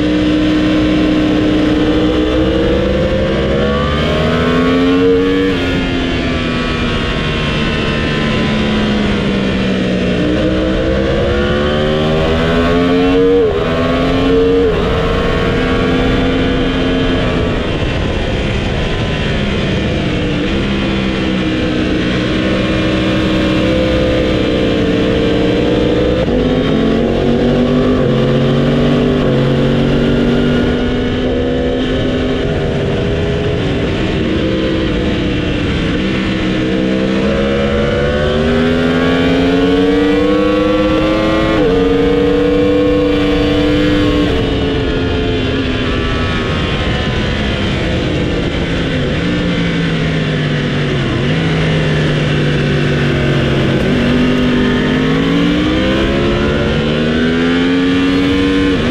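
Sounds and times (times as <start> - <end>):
motorcycle engine accelerating: 0.0 - 58.9
wind rush: 0.0 - 58.9.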